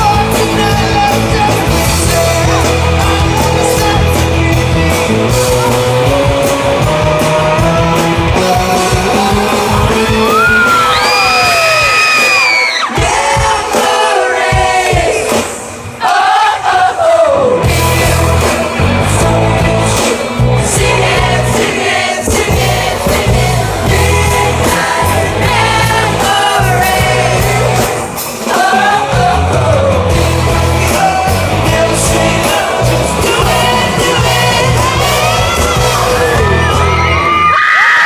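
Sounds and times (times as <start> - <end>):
amplified pop-rock with male vocals: 0.0 - 38.0.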